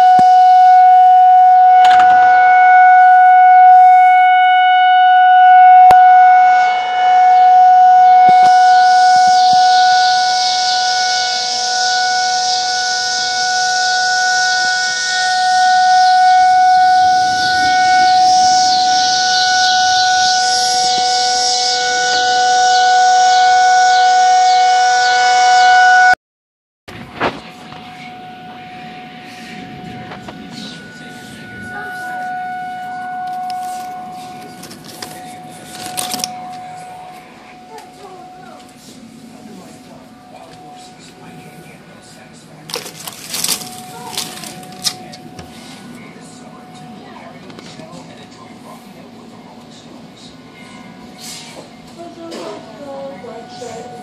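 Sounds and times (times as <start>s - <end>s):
rotating warning siren: 0.0s - 26.2s, 26.9s - 54.0s.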